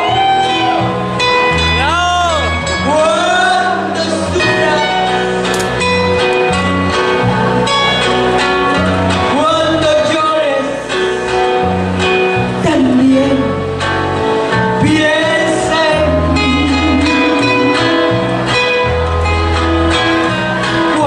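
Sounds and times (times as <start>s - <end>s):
band accompaniment with bass: 0.0s - 21.0s.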